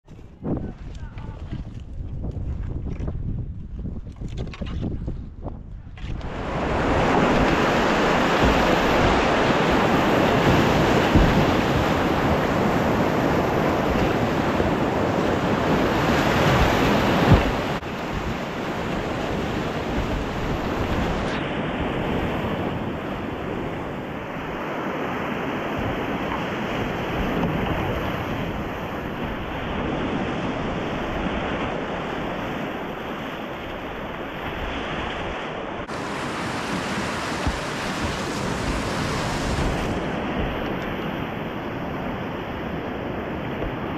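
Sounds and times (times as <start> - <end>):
wind buffeting microphone: 0.0 - 43.9
whitewater rushing: 6.3 - 29.7, 30.4 - 43.2.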